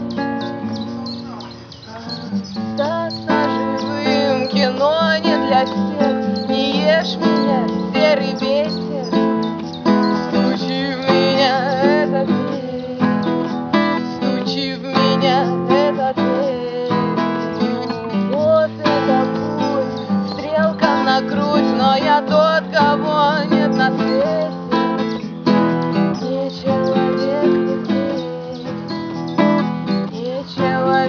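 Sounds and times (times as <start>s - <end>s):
acoustic guitar strumming: 0.0s - 31.0s
vibrato melody line: 0.0s - 31.0s.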